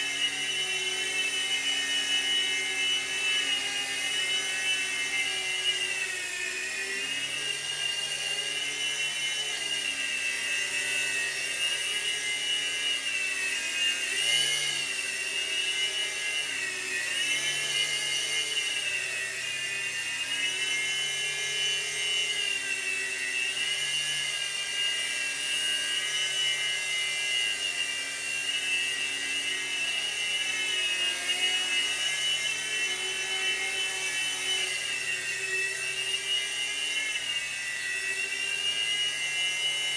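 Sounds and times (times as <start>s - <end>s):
toy helicopter motor whine: 0.0s - 39.9s.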